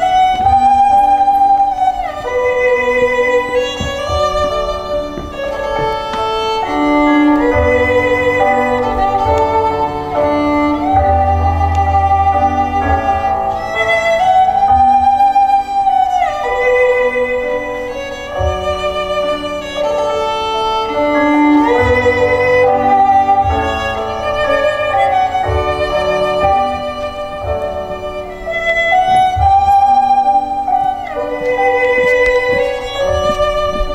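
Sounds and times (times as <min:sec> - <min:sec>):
instrumental music melody: 0:00.0 - 0:33.9.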